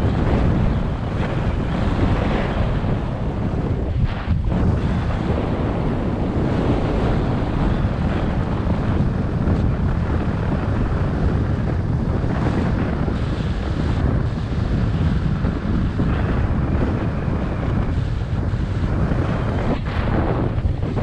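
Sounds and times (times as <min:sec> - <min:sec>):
snowboard scraping over snow: 0:00.0 - 0:21.0
wind buffeting microphone: 0:00.0 - 0:21.0.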